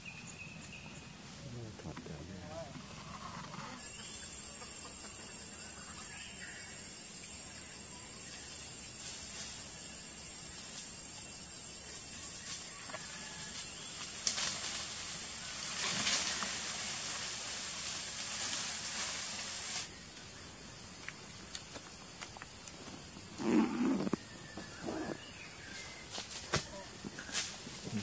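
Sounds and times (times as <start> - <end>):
high-pitched insects buzzing: 3.7 - 28.0.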